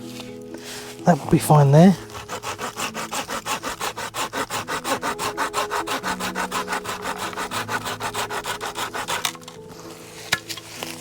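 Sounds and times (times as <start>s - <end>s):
hand saw cutting stick: 1.0s - 11.0s.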